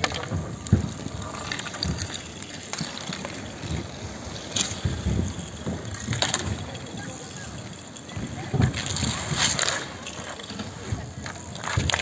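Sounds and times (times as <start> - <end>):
hockey sticks knocking: 0.0 - 12.0
skate wheels rolling on asphalt: 0.0 - 12.0.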